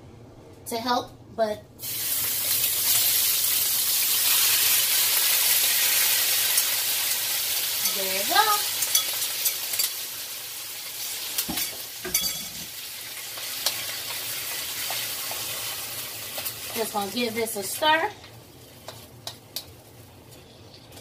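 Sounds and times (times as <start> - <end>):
meat sizzling in wok: 1.8 - 20.1.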